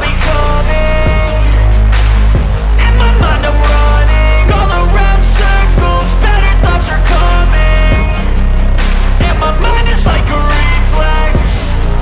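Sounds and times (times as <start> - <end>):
electronic rock music: 0.0 - 12.0.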